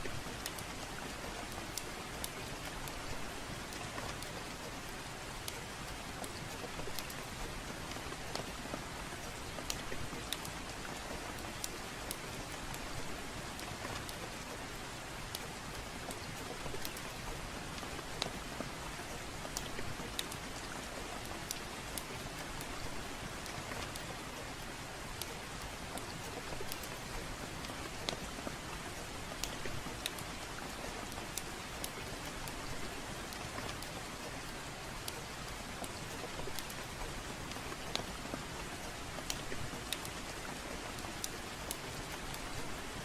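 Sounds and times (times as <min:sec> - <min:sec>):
steady rainfall hiss: 0:00.0 - 0:43.0
wood fire crackling: 0:00.1 - 0:43.0.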